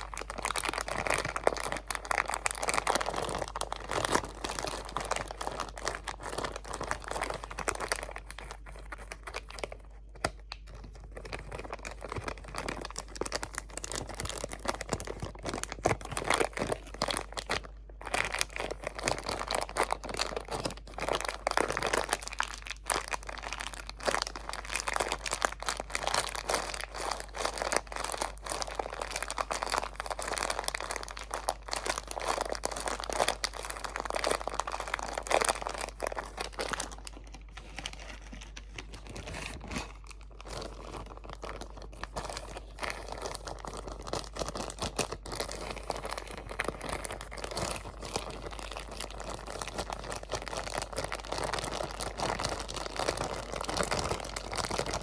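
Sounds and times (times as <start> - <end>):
materials crinkling: 0.0 - 55.0.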